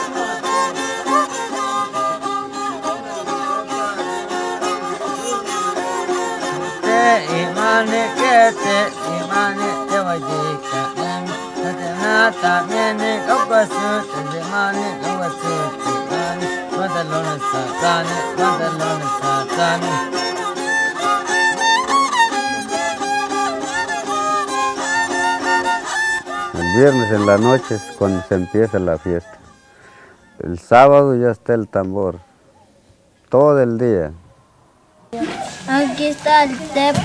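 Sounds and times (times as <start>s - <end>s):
plucked strings: 0.0s - 29.7s, 35.1s - 37.0s
violin playing gliding melody: 0.0s - 29.7s.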